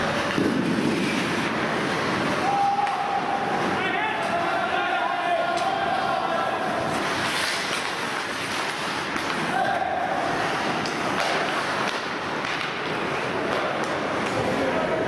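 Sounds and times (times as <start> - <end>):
players calling and shouting: 1.8 - 15.0.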